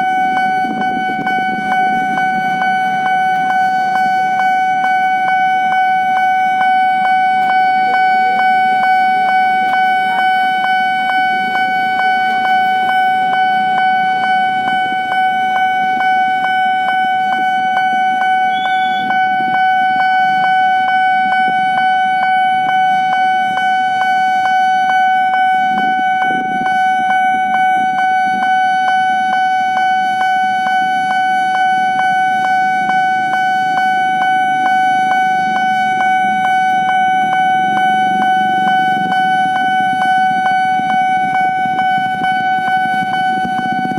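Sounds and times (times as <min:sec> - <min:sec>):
level crossing bell ringing: 0:00.0 - 0:43.9.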